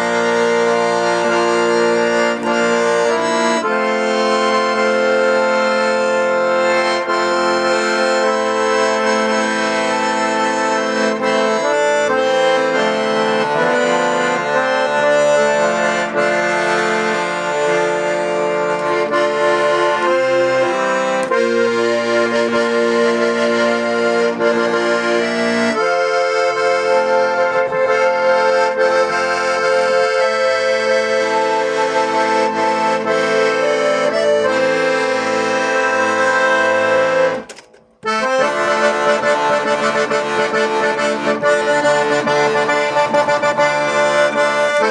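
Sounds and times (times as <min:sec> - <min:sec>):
accordion playing chords: 0:00.0 - 0:44.9.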